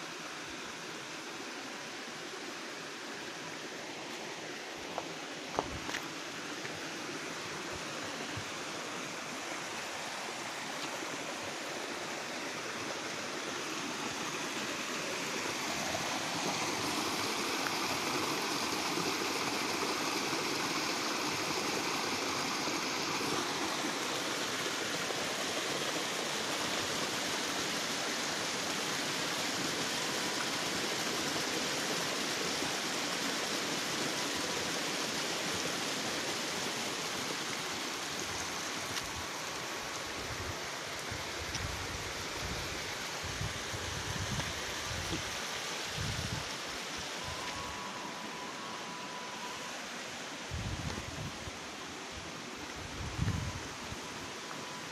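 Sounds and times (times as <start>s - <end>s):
waterfall cascading over rocks: 0.0s - 54.9s.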